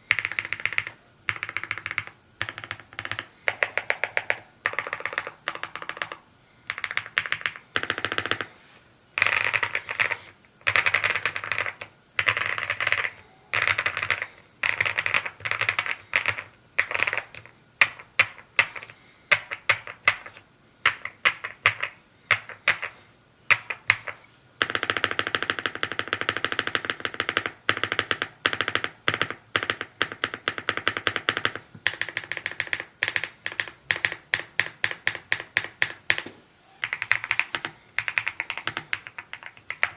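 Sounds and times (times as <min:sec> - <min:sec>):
typing on mechanical keyboard: 0:00.0 - 0:08.5, 0:09.2 - 0:36.2, 0:36.8 - 0:39.9.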